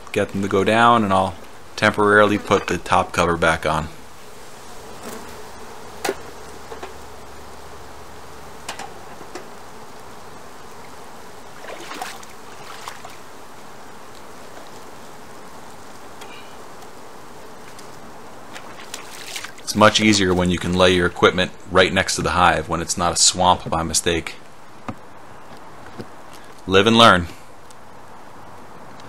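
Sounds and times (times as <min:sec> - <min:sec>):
honeybees buzzing: 0:00.0 - 0:28.9.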